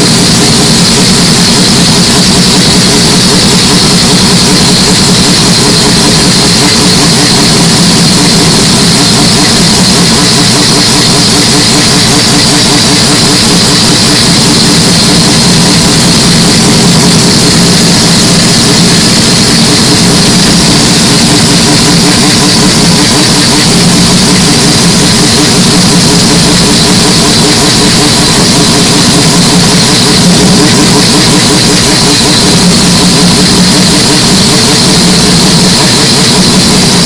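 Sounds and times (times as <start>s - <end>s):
rotary engine running steadily: 0.0s - 37.0s.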